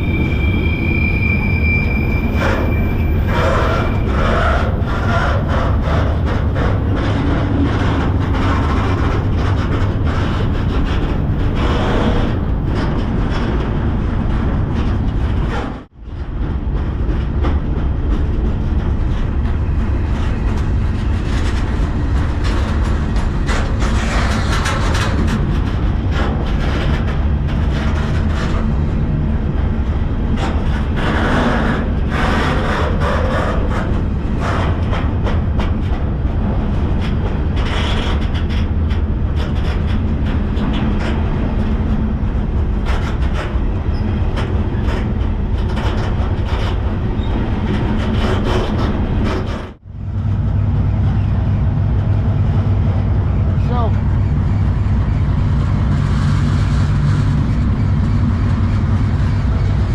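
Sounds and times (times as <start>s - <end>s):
train clanks and rattles: 0.0s - 59.9s
train wheels rumbling on rail: 0.0s - 59.9s.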